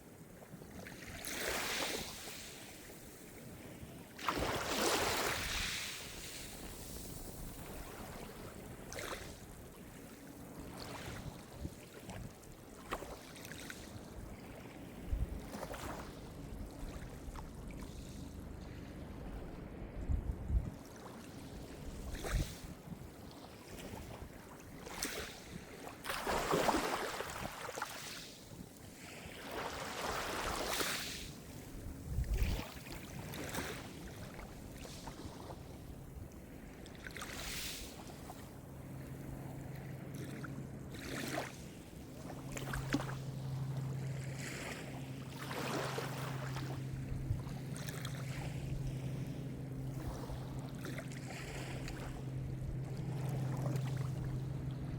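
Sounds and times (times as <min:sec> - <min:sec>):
small waves breaking: 0:00.0 - 0:54.9.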